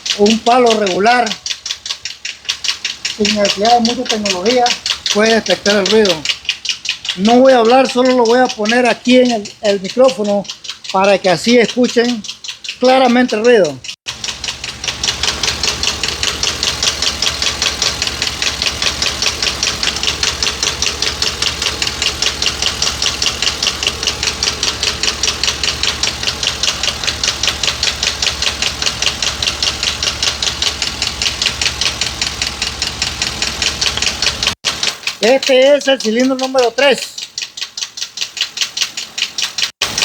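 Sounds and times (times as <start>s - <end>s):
engine ticking knock: 0.0s - 40.0s.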